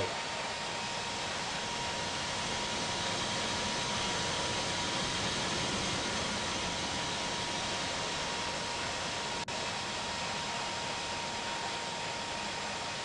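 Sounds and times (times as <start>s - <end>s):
cockpit airflow and engine noise: 0.0s - 13.0s
thin steady whine: 0.0s - 13.0s.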